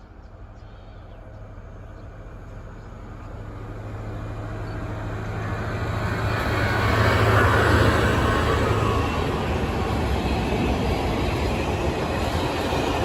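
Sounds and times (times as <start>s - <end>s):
train rolling noise: 0.0s - 13.0s.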